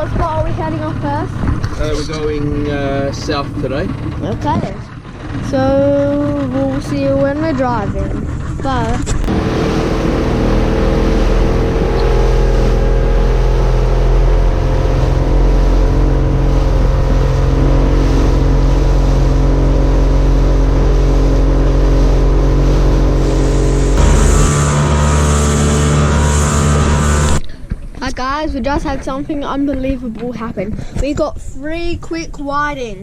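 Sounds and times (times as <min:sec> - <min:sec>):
motorboat engine running: 0:00.0 - 0:28.0.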